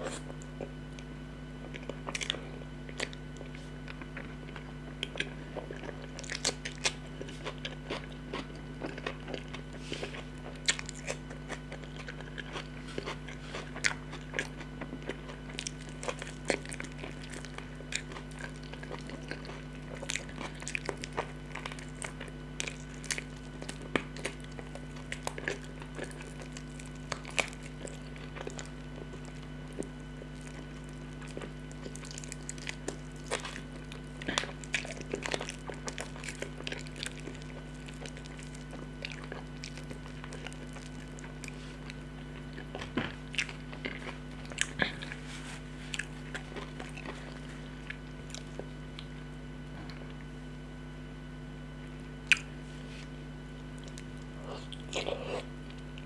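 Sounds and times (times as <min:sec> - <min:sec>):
person chewing wet smacks: 0:00.0 - 0:50.3, 0:51.9 - 0:52.6, 0:53.6 - 0:56.0
steady low hum: 0:00.0 - 0:56.0.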